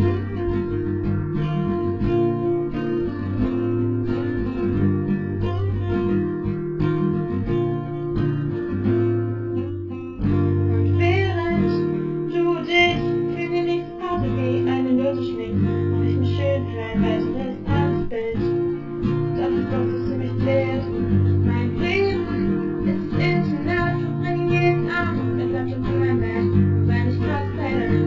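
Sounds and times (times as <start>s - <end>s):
guitar song with bass: 0.0s - 28.0s.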